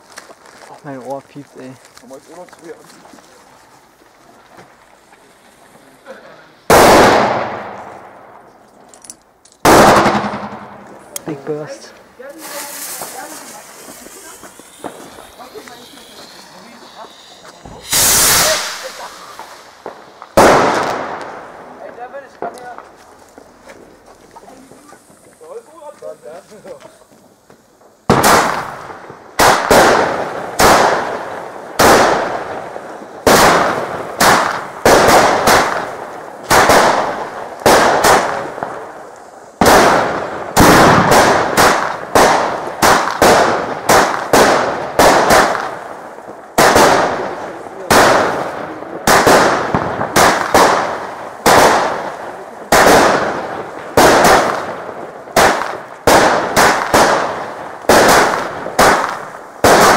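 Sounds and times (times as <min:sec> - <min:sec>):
firework bangs with echo: 0:04.4 - 0:08.5, 0:09.6 - 0:59.9.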